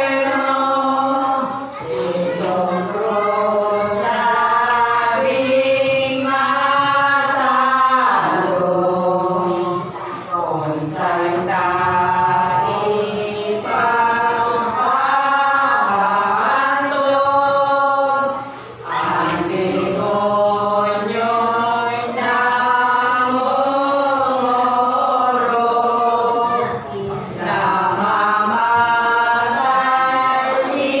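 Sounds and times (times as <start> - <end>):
women singing a hymn: 0.0 - 31.0.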